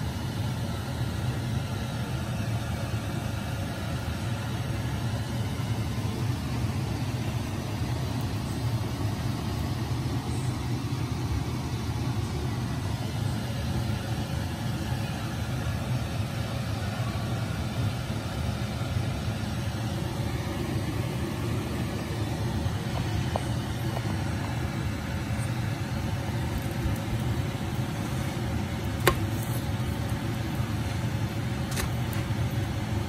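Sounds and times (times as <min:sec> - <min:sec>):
steady low rumble: 0:04.6 - 0:33.0.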